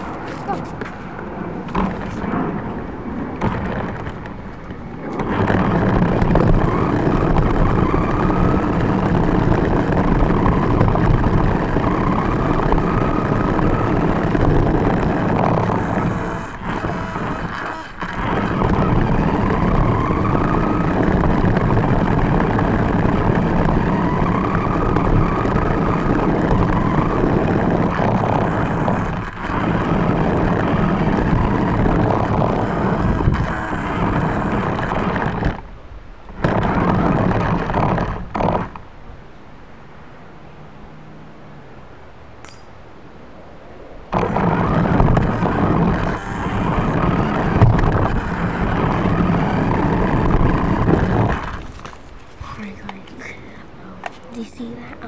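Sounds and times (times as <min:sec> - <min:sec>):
faint motor whine: 0:00.0 - 0:55.0
wheels rumbling over pavement: 0:00.0 - 0:55.0.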